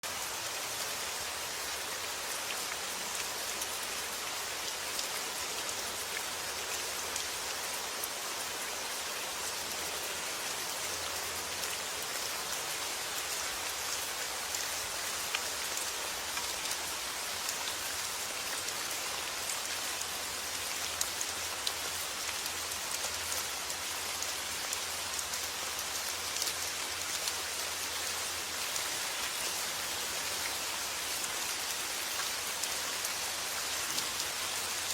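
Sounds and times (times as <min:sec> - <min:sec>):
steady rain with drop ticks: 0:00.0 - 0:34.9.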